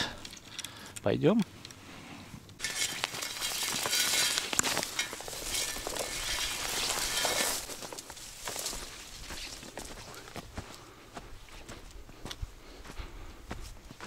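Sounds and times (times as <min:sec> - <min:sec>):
footsteps crunching on dry ground: 0:02.6 - 0:14.0.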